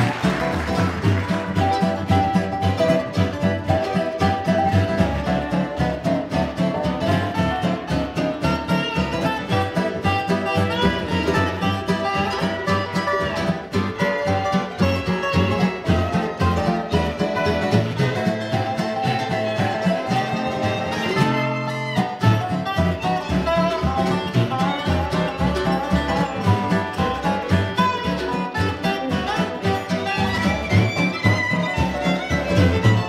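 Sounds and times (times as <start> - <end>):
resonator guitar lead: 0.0 - 33.0
strummed rhythm guitar: 0.0 - 33.0.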